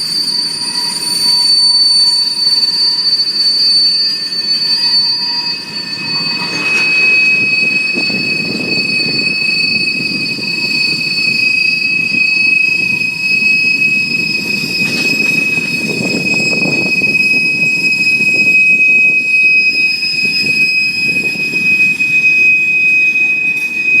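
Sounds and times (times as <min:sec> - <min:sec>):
high-pitched wheel squeal: 0:00.0 - 0:24.0
train wheels rumbling on rails: 0:00.0 - 0:24.0.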